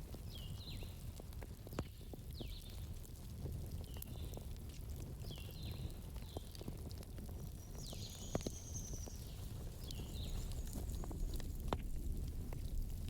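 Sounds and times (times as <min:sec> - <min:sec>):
campfire crackling and popping: 0:00.0 - 0:13.0
campfire low rumble: 0:00.0 - 0:13.0.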